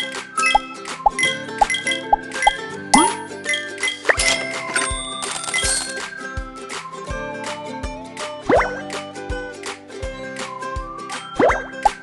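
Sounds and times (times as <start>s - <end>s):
cheerful music with steady beat: 0.0s - 12.0s.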